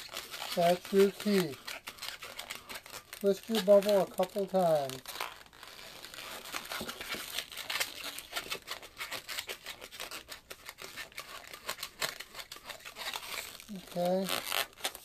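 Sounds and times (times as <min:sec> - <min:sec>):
balloon latex crinkling clicks: 0:00.0 - 0:15.0.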